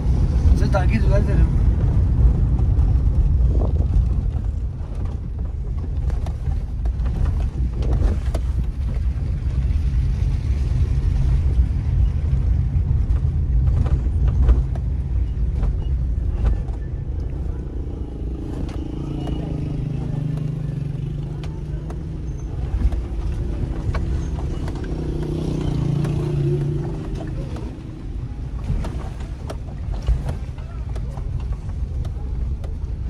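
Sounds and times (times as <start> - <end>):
car engine and road rumble: 0.0 - 33.0
knocks and rattles from bumps: 1.5 - 33.0.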